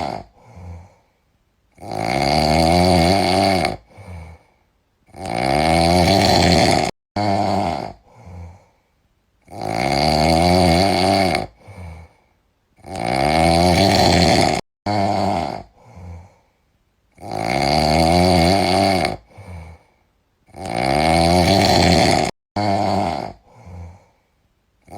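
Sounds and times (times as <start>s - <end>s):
cat snoring: 0.0s - 1.0s, 1.8s - 4.5s, 5.1s - 8.7s, 9.4s - 12.2s, 12.8s - 16.4s, 17.2s - 19.9s, 20.5s - 24.1s.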